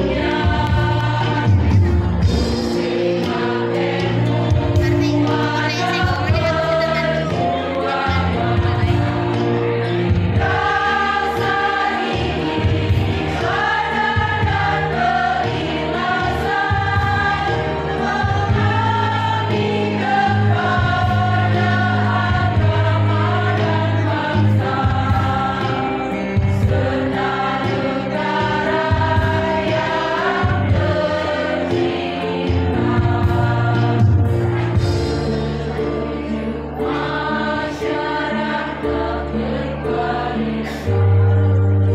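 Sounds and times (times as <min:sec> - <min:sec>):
women's choir singing a hymn: 0:00.0 - 0:41.9.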